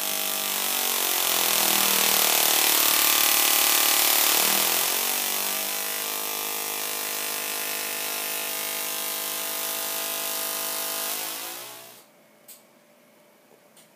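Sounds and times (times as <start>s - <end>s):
tesla coil buzzing: 0.0s - 12.0s.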